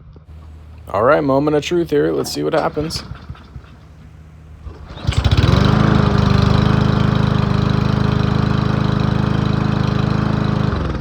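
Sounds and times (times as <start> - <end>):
lawn mower engine starting: 0.3 - 11.0.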